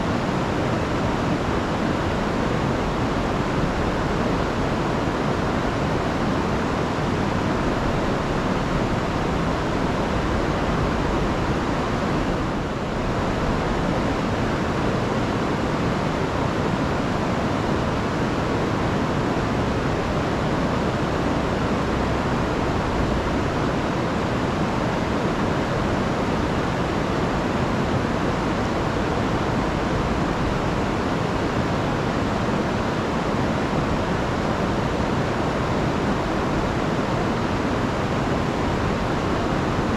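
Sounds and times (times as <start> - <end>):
river rushing over waterfall: 0.0 - 39.9.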